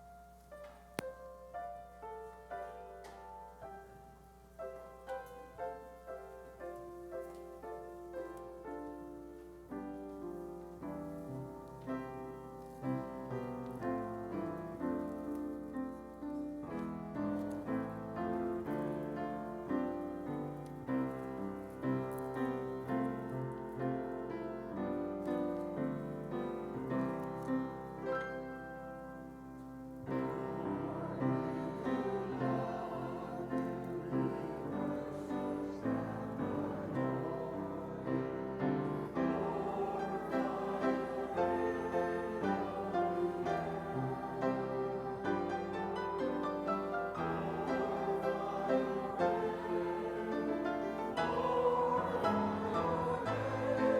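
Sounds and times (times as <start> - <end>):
piano playing hymn chords: 0.0 - 53.9.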